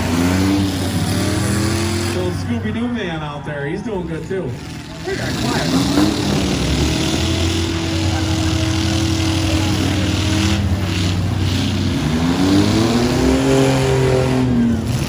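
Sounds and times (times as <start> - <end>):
truck engine revving: 0.0 - 15.0
truck engines running loud: 0.0 - 15.0.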